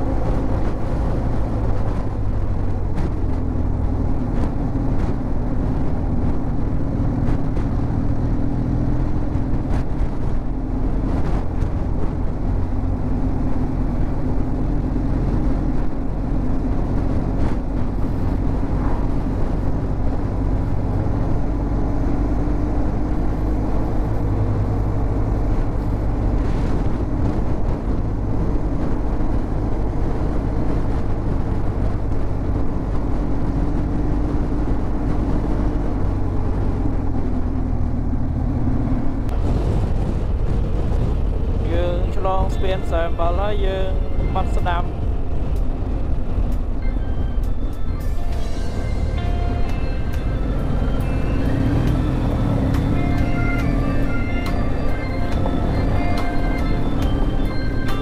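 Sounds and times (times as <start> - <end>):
heavy low rumble: 0.0 - 58.0.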